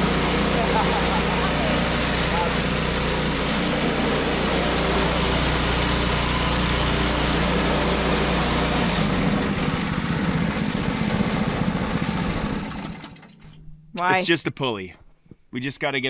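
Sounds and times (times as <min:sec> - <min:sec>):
small gasoline engine running: 0:00.0 - 0:13.4.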